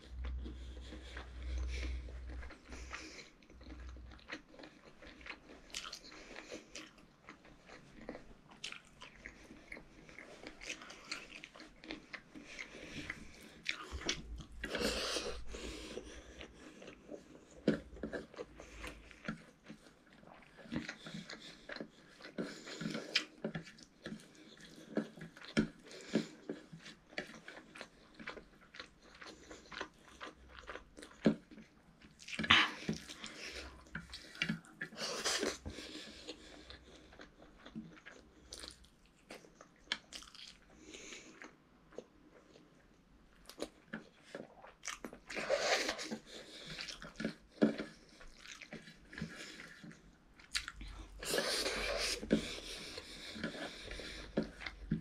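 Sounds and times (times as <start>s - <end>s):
child chewing: 0.0s - 55.0s.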